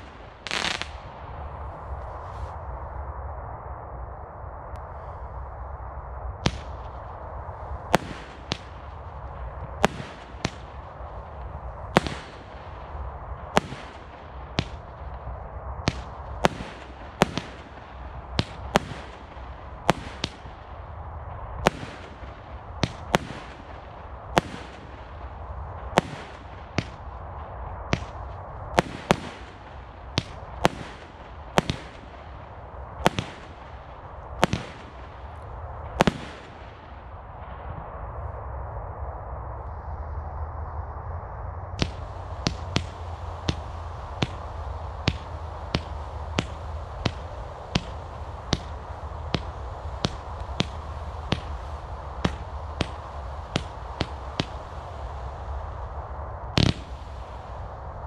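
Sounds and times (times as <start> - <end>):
firework bangs with hiss: 0.0 - 1.3, 6.4 - 7.0, 7.8 - 37.8, 41.8 - 55.6, 56.5 - 57.6.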